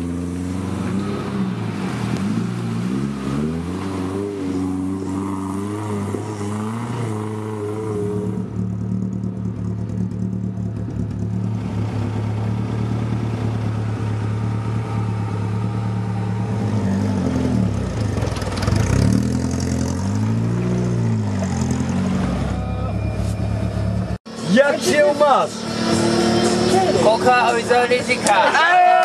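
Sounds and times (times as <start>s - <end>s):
engine revving: 0.0s - 22.9s, 23.9s - 28.4s.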